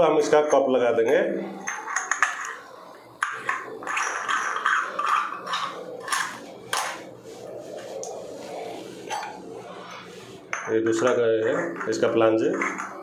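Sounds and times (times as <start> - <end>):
metal flange scraping on tiles: 1.6 - 13.0.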